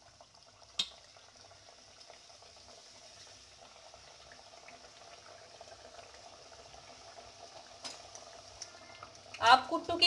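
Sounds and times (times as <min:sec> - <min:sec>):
deep-frying sizzling and bubbling: 0:00.0 - 0:10.0.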